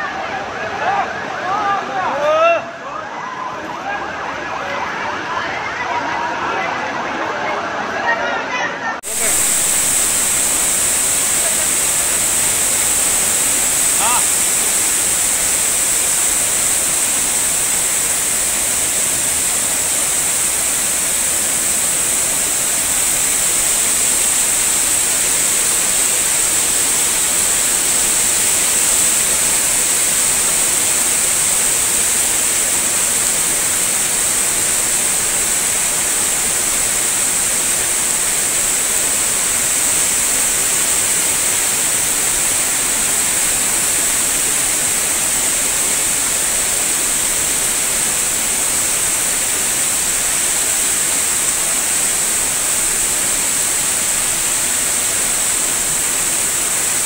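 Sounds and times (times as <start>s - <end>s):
floodwater rushing: 9.0s - 57.0s.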